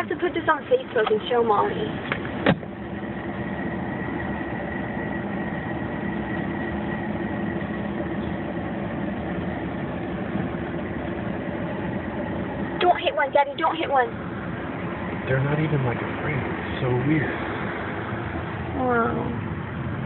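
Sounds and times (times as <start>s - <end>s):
car engine hum inside cabin: 0.0s - 20.0s.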